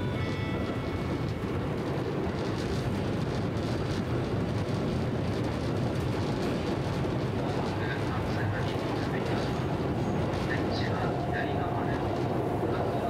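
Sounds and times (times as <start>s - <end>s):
electric train running rumble: 0.0s - 13.0s.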